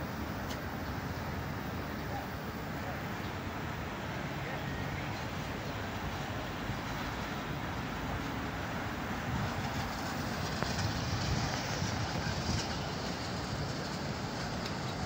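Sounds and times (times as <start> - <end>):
monorail train rumbling past: 0.0 - 15.0.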